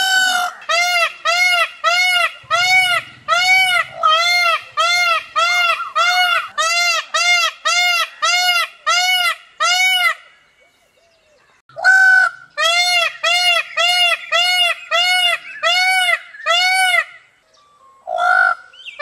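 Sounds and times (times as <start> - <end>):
peafowl calling: 0.0 - 19.0.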